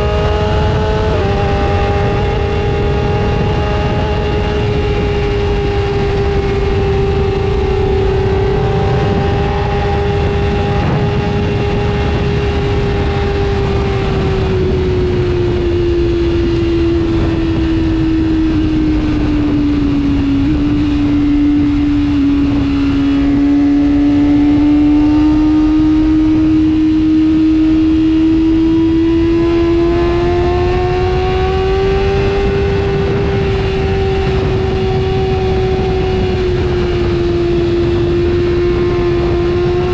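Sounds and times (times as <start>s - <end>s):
motorcycle engine running high: 0.0s - 39.9s.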